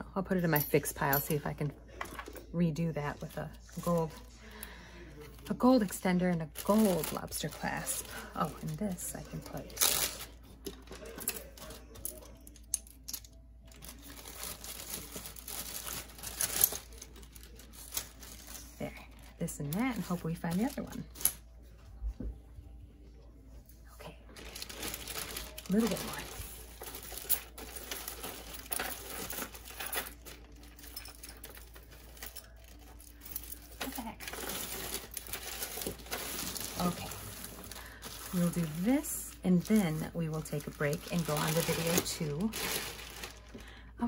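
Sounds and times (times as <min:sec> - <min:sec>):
plastic bag crinkling: 0:03.2 - 0:12.7, 0:13.6 - 0:21.2, 0:24.3 - 0:44.0.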